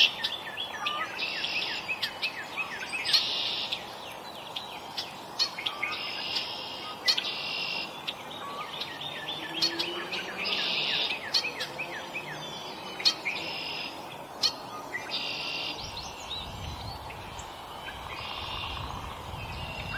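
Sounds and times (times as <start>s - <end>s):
songbirds buzzy calls: 0.0s - 19.9s.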